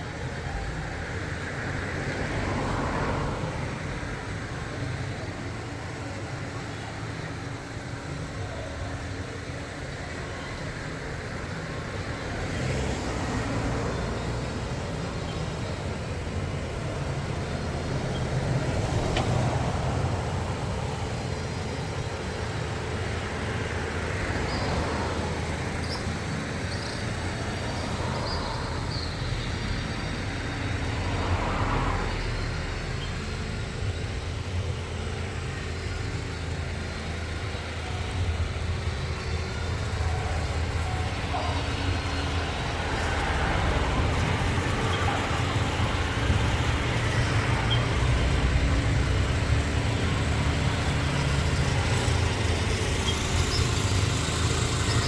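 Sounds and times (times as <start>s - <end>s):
moving car road and engine noise: 0.0s - 55.0s.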